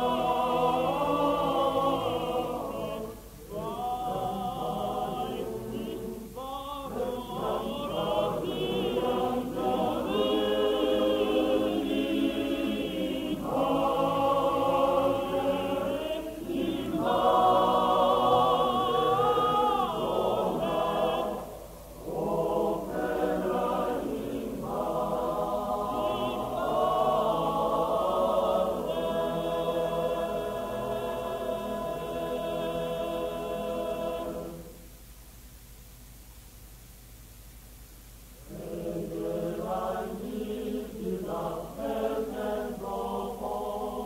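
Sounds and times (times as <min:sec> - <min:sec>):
men's choir singing a cappella: 0:00.0 - 0:34.8, 0:38.4 - 0:44.0.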